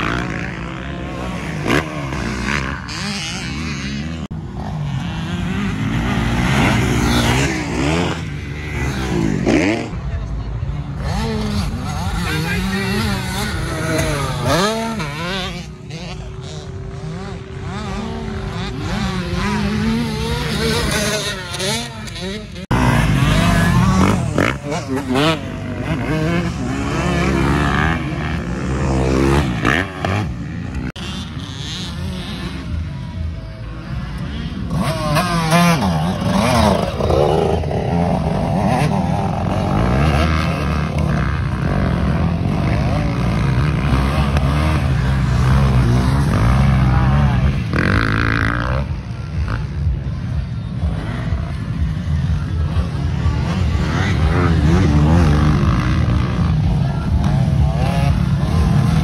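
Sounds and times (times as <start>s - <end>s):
motocross engines revving: 0.0s - 59.0s.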